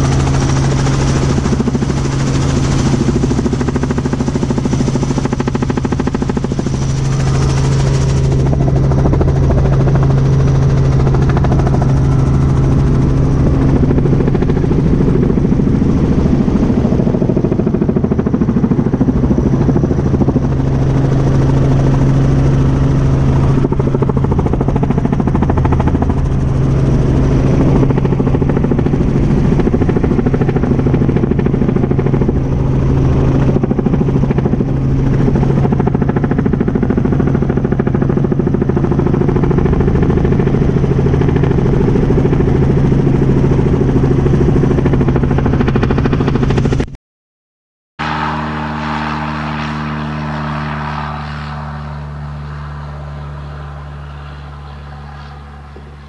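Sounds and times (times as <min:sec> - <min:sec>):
helicopter engine and rotor drone: 0:00.0 - 0:47.0, 0:48.0 - 0:56.0.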